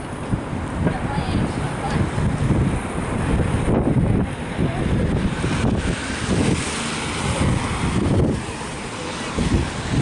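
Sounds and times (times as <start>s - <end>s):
traffic on wet road: 0.0s - 10.0s
wind buffeting microphone: 0.0s - 10.0s.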